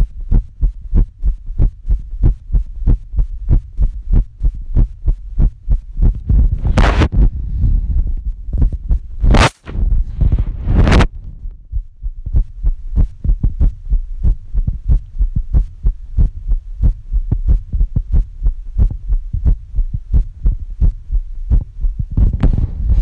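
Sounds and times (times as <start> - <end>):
heartbeat thumps: 0.0 - 23.0
low hum: 0.0 - 23.0.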